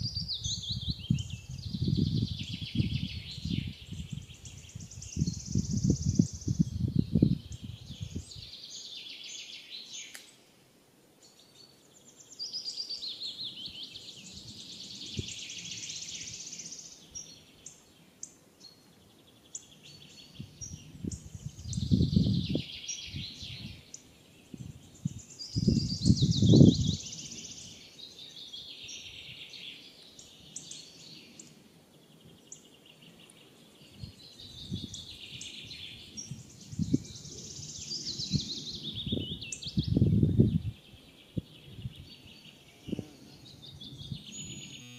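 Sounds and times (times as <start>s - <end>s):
small birds chirping: 0.0s - 10.5s, 11.2s - 44.9s.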